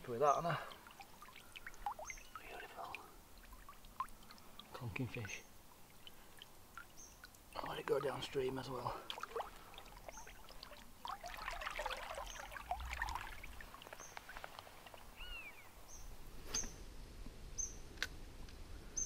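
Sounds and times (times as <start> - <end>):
small birds chirping: 0.0 - 11.2, 12.0 - 16.8, 17.6 - 17.9
river water splashing: 0.3 - 16.0.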